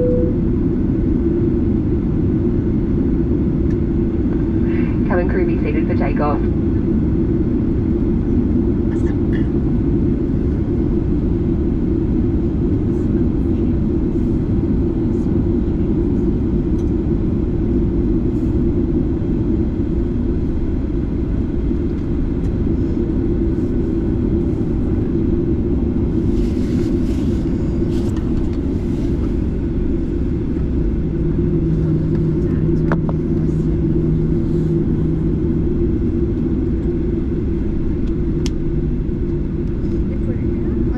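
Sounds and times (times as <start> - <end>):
airflow in aircraft cabin: 0.0 - 40.9
jet engines roaring: 0.0 - 40.9
low steady hum: 0.0 - 40.9.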